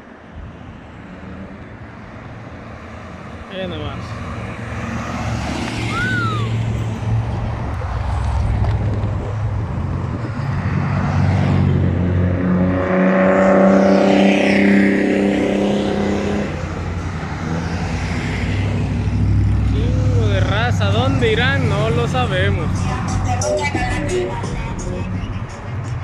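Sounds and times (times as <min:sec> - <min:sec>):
trucks driving past: 0:00.0 - 0:26.0
vehicle passing with pitched drone: 0:00.6 - 0:26.0.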